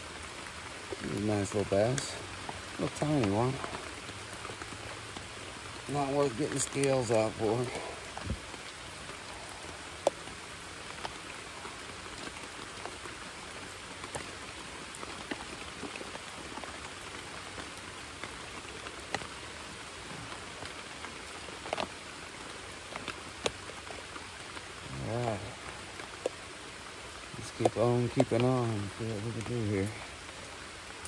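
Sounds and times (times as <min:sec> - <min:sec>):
rain falling on creek and leaves: 0:00.0 - 0:31.0.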